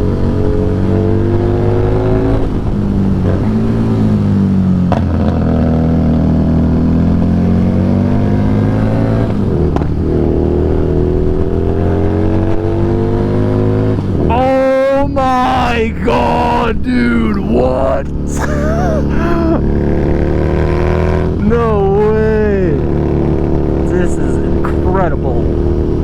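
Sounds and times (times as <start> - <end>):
motorcycle engine running: 0.0 - 16.6, 17.5 - 26.0.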